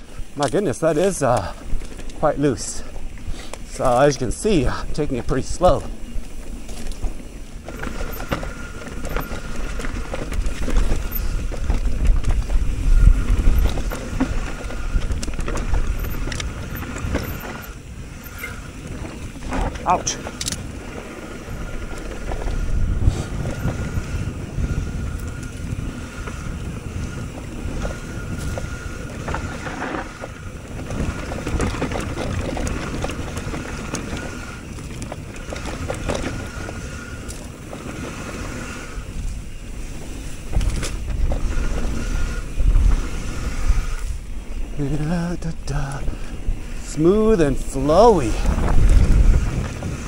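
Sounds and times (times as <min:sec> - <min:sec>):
bike rattling over bumps: 0:00.0 - 0:50.0
tyres rumbling over dirt: 0:00.0 - 0:50.0
wind on microphone: 0:00.0 - 0:50.0.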